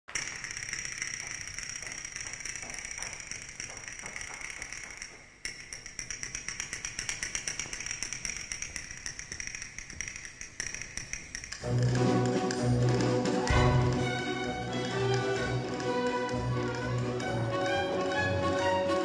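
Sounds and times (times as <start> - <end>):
pointe shoes tapping on floor: 0.4 - 11.4, 12.2 - 18.7.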